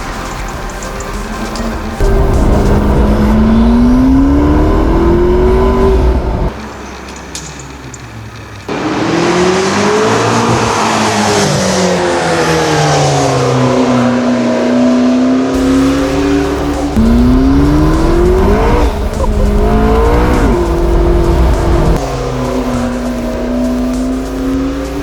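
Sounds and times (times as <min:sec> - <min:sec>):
car engine driven hard: 0:00.0 - 0:07.0, 0:07.6 - 0:25.0.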